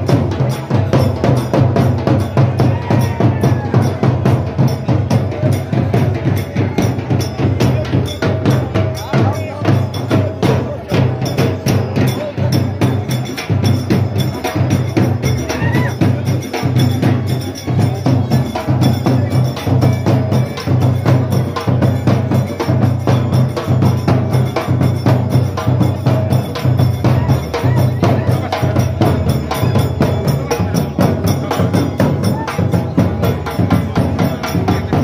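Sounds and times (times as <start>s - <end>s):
drums beaten with sticks: 0.0s - 35.0s.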